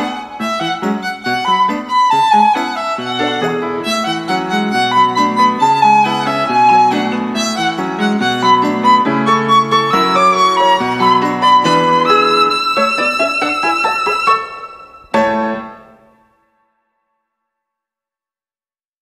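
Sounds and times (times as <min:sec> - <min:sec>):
instrumental background music: 0:00.0 - 0:16.6.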